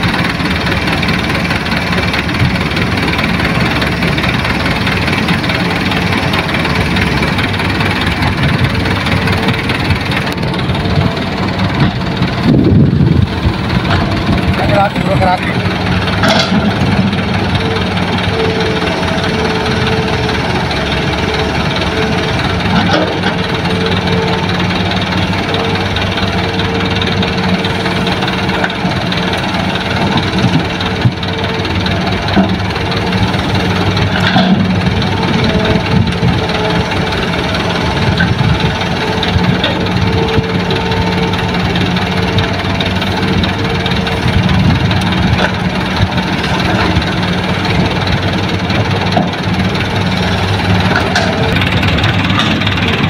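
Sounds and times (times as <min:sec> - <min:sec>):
diesel engines droning: 0:00.0 - 0:53.0.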